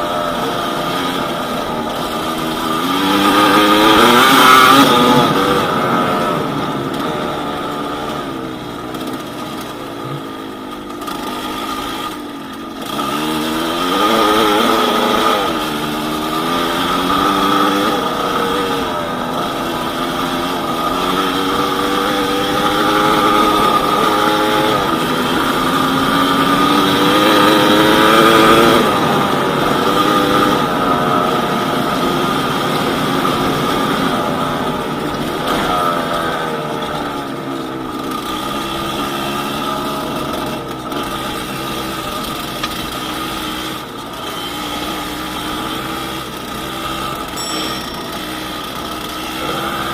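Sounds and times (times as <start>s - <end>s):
two-stroke engine revving: 0.0s - 49.9s.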